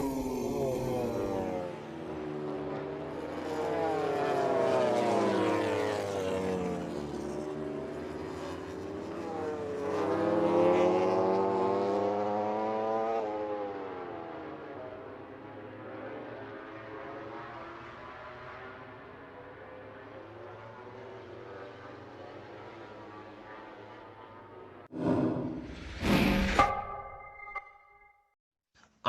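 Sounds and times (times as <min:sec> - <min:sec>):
racing motorcycles passing: 0:00.0 - 0:24.7.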